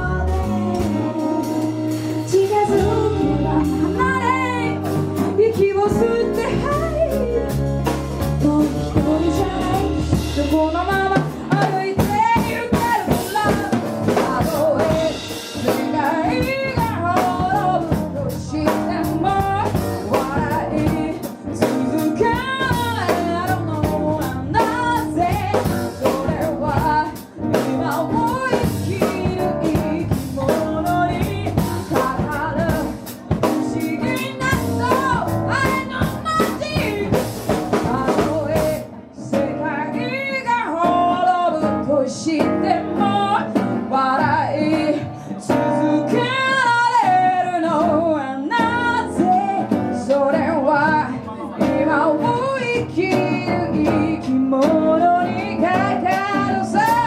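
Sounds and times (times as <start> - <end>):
person singing: 0.0 - 7.6, 8.4 - 57.0
bass guitar: 0.0 - 57.0
drums: 0.0 - 57.0
guitar: 0.0 - 57.0.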